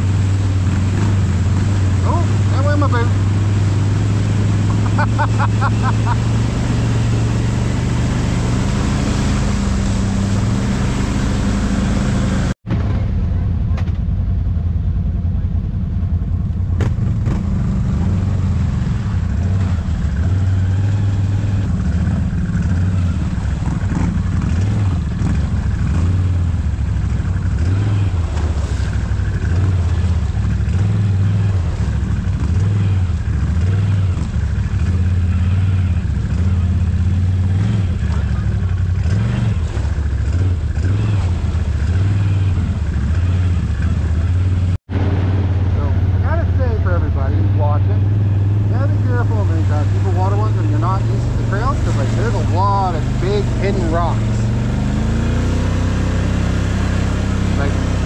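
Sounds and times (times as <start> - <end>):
atv engine drone: 0.0 - 58.0.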